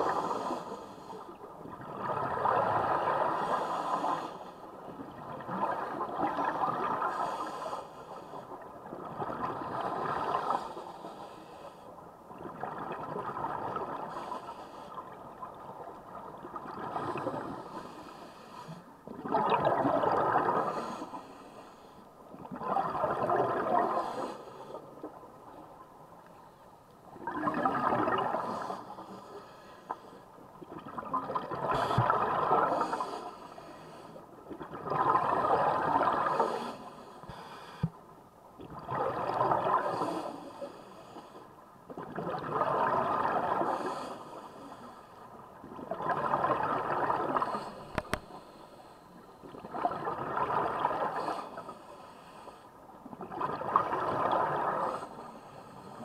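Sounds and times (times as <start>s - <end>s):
exhaled bubbles gurgling underwater: 0.0s - 21.6s, 22.2s - 37.5s, 38.5s - 52.0s, 52.9s - 56.0s.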